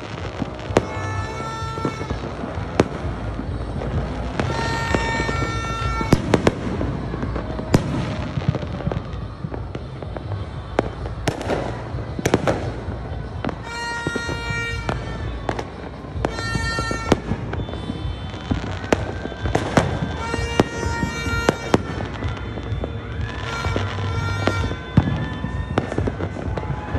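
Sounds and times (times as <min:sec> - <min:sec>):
fireworks banging: 0:00.0 - 0:26.9
rumble of distant explosions: 0:00.0 - 0:26.9.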